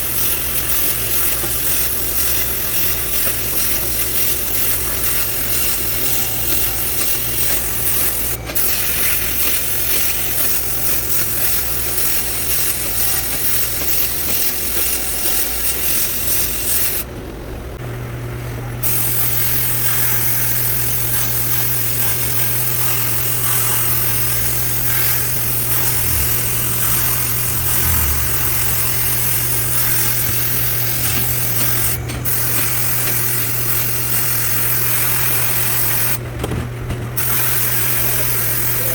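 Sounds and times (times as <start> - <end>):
sandblaster hissing: 0.0 - 17.1, 18.8 - 36.2, 37.2 - 38.9
steady low hum: 0.0 - 36.4.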